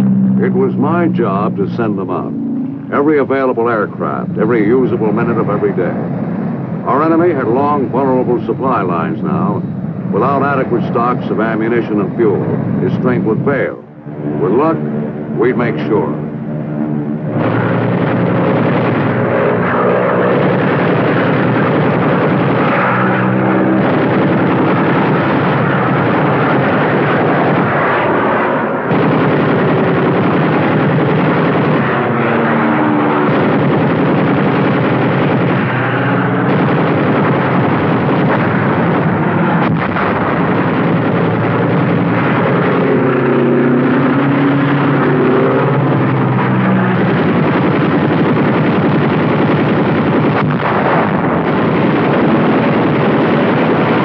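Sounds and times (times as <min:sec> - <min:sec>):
military aircraft engines: 0:00.0 - 0:54.0.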